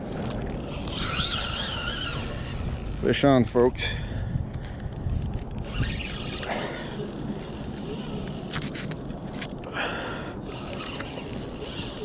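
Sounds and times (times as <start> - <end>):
fishing reel drag clicking: 0.1 - 3.4, 4.3 - 12.0.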